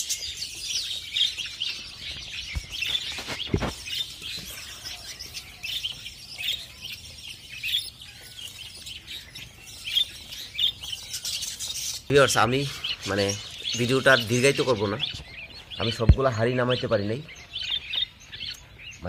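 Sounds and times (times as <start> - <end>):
parrots chirping: 0.0 - 19.0.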